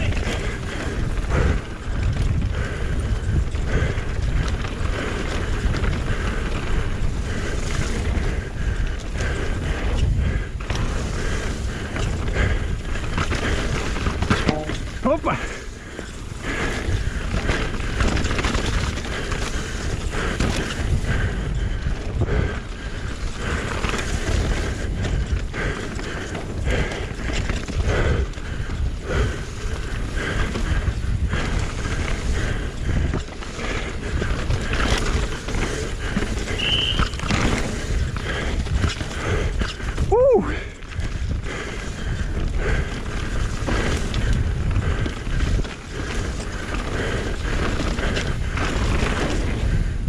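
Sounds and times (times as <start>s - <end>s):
tyres on dirt: 0.0s - 49.9s
bike rattling over bumps: 0.0s - 50.0s.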